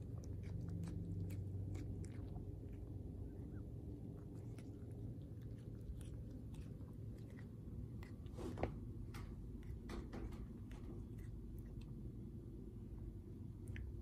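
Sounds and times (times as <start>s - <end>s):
cat chewing crunchily: 0.0s - 14.0s.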